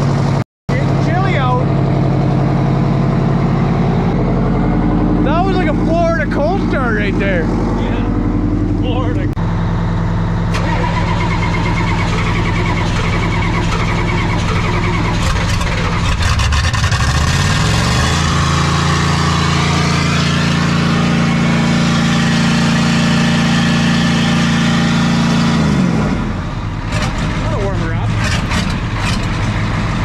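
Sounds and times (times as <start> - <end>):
diesel engine idling and revving: 0.0 - 30.0.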